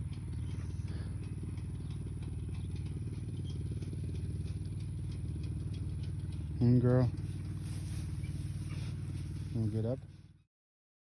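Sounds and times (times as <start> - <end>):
engine idling: 0.0 - 10.4.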